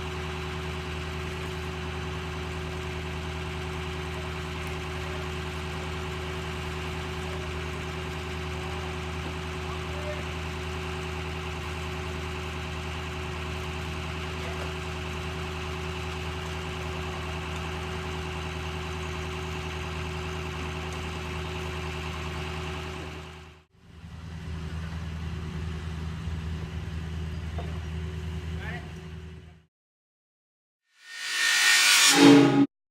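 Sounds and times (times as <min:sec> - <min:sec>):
engine idling: 0:00.0 - 0:29.4.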